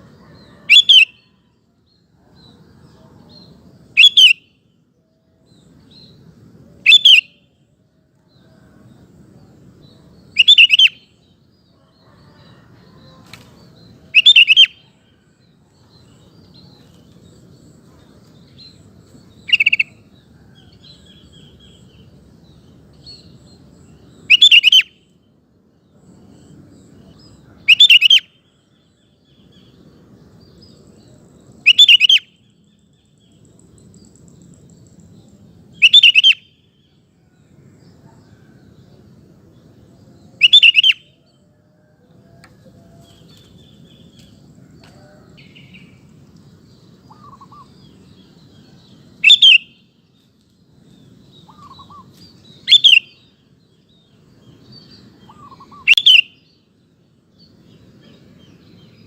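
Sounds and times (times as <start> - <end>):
faint low background noise: 0.0 - 59.0.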